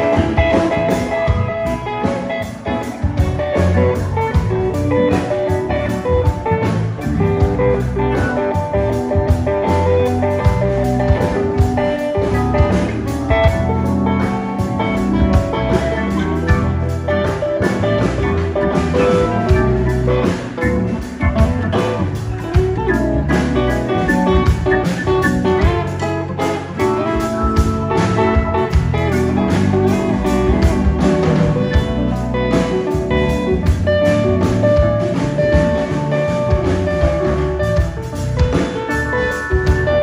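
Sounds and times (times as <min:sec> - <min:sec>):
blues band playing: 0:00.0 - 0:40.0
electric guitar: 0:00.0 - 0:40.0.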